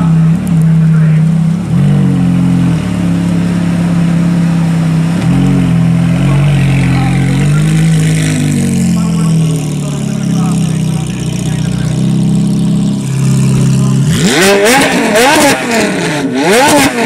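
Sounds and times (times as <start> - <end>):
car engine pulling away: 0.0 - 17.0.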